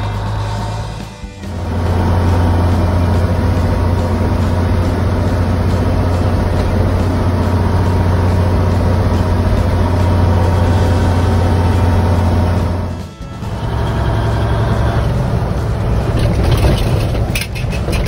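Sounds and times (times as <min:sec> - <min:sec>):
diesel truck engine drone: 0:00.0 - 0:18.0.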